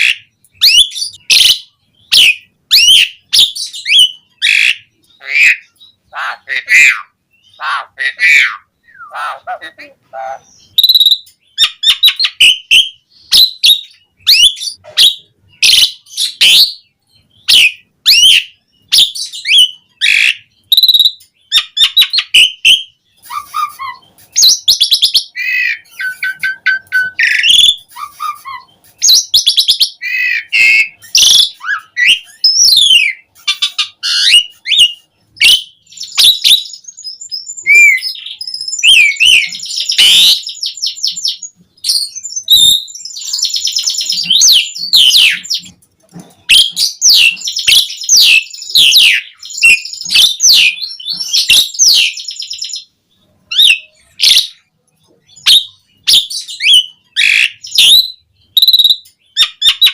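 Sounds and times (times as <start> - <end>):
starling singing: 0.0 - 59.9.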